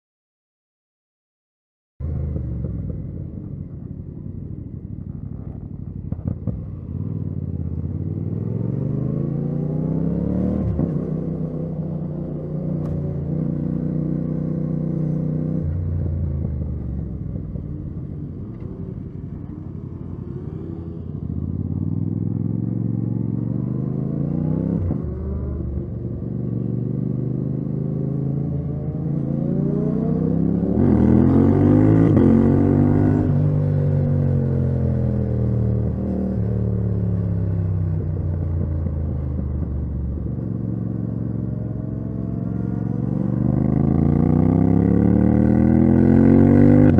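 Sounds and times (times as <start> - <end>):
motorcycle engine revving: 2.0 - 46.9.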